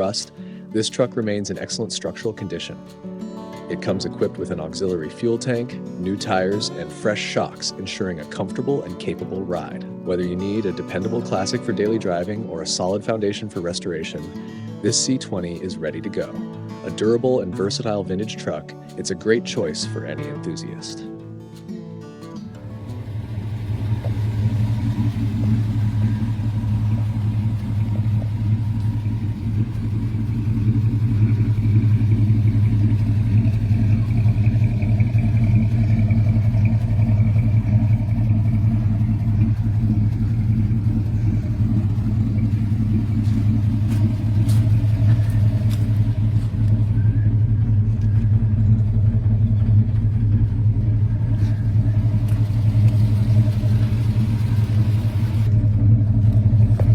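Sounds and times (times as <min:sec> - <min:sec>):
pickup truck engine running: 0:03.6 - 0:19.7, 0:22.5 - 0:56.9.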